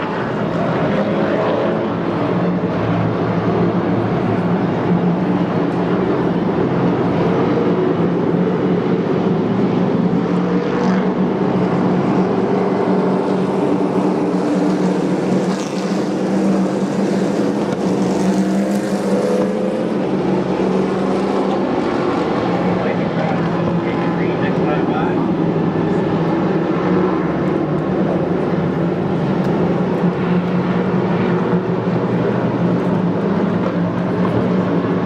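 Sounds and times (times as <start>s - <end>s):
racing truck engines: 0.0s - 35.0s.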